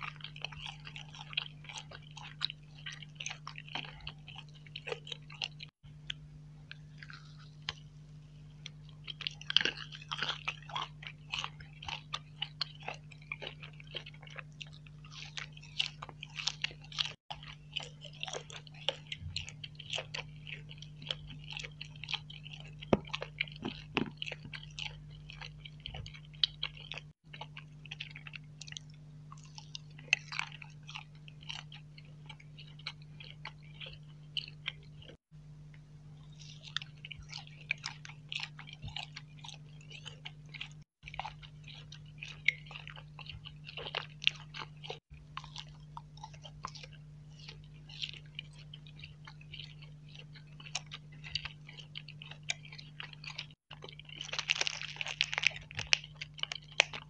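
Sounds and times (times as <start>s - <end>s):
chewing and wet mouth clicks: 0.0s - 57.0s
steady low hum: 0.0s - 57.0s.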